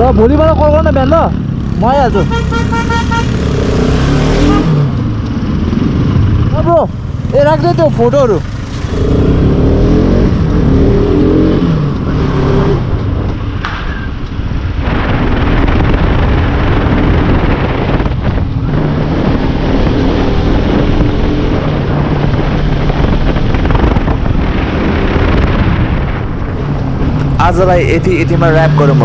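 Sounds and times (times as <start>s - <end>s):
wind buffeting microphone: 3.7s - 29.0s.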